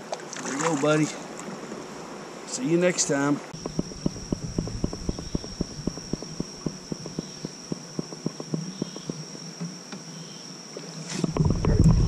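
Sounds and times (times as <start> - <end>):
insects droning: 0.7 - 12.0.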